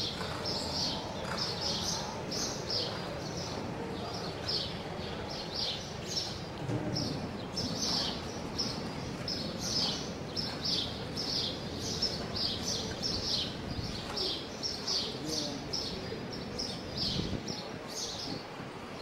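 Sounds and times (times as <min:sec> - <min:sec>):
small birds chirping: 0:00.0 - 0:18.5
steady background hiss: 0:00.0 - 0:19.0.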